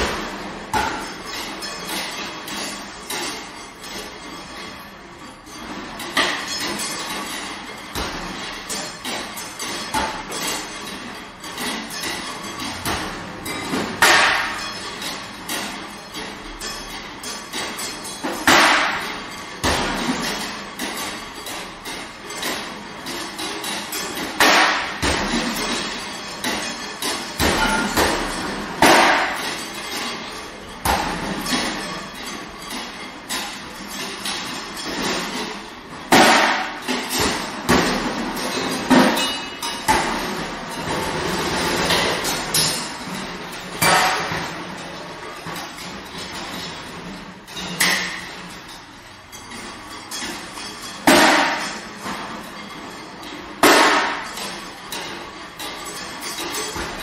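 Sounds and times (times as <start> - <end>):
percussion hits ringing: 0.0 - 57.0.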